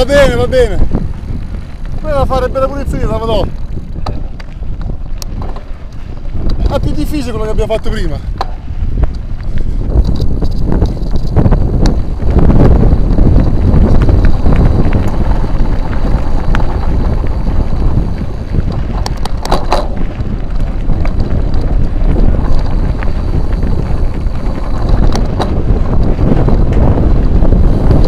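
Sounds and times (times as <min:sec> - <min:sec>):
bike rattling and clicking: 0:00.0 - 0:28.0
wind buffeting microphone: 0:00.0 - 0:28.0.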